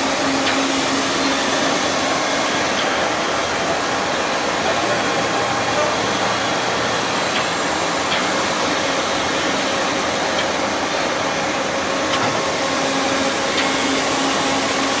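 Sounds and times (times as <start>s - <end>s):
lathe spindles whirring: 0.0s - 15.0s.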